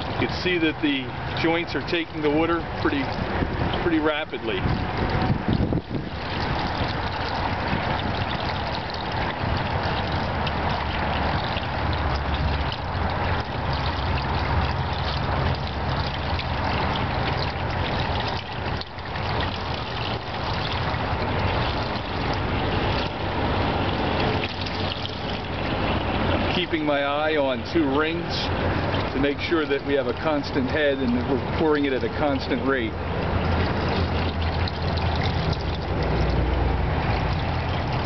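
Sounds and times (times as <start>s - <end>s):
water pouring and splashing: 0.0s - 38.0s.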